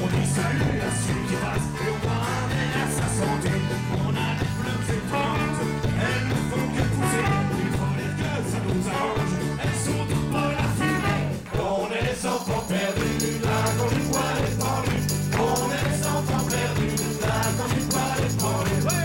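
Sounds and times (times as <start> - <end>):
band playing amplified music: 0.0 - 11.5, 12.8 - 19.0.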